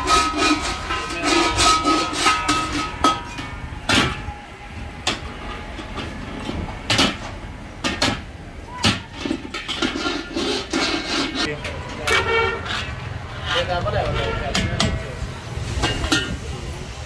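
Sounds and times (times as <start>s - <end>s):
metal ladle clanking on woks: 0.0s - 4.3s, 5.0s - 16.4s.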